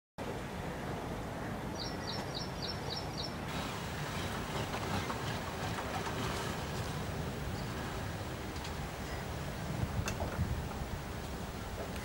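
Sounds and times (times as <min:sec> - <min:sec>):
steady low outdoor noise: 0:00.2 - 0:12.0.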